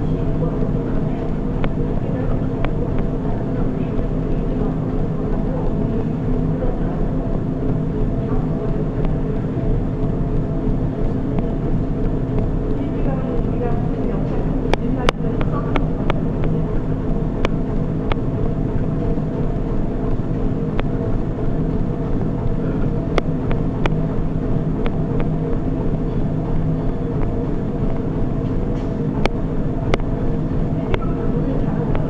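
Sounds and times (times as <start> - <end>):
treadmill machine hum: 0.0 - 32.0.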